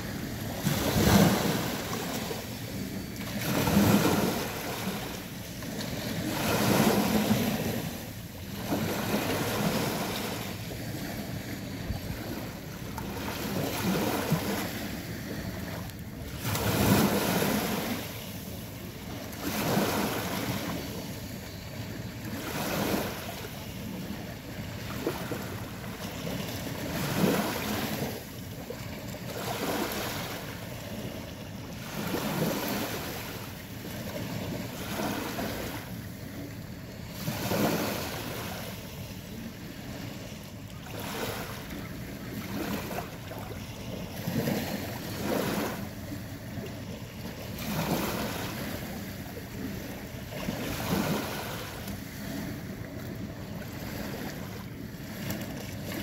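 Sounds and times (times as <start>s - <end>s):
waves washing over pebbles: 0.0s - 56.0s.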